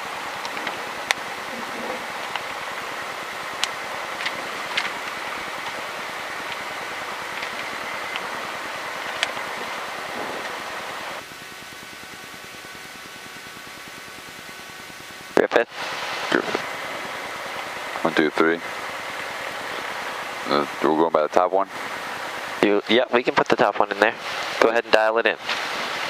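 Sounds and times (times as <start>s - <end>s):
quiet steady hum: 0.0s - 24.9s
radio hiss with crackles: 0.0s - 26.0s.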